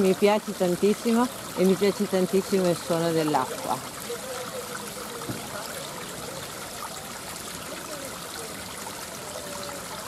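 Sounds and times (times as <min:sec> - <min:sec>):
water trickling over stones: 0:00.0 - 0:10.0.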